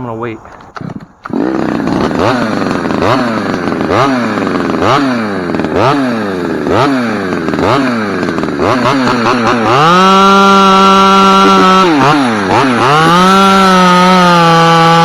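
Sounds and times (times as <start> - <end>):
chainsaw revving: 0.7 - 15.0.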